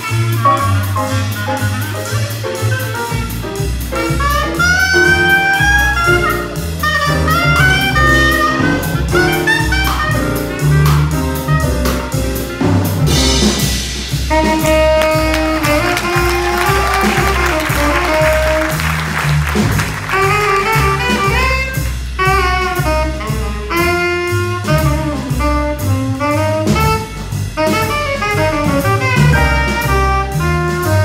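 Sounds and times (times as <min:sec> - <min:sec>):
clarinet solo: 0:00.0 - 0:12.0, 0:14.3 - 0:31.0
jazz orchestra playing: 0:00.0 - 0:31.0.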